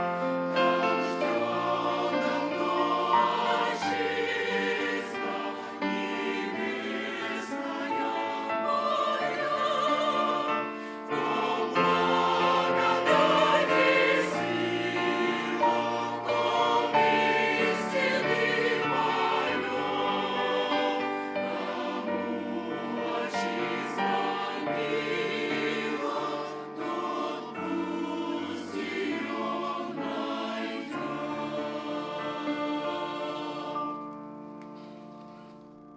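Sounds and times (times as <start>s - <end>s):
choir singing: 0.0s - 35.8s.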